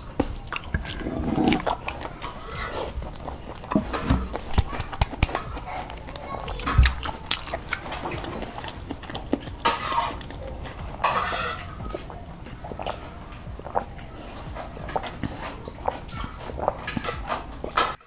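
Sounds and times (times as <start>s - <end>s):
wet mouth clicks: 0.0s - 18.0s
sucking slurps through straw: 0.4s - 18.0s.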